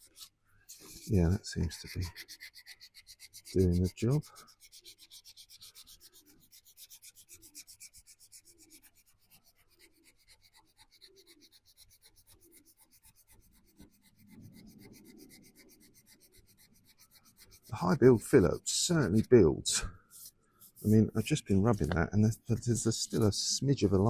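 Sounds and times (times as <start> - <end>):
hand sanding metal panel: 0.0 - 23.5.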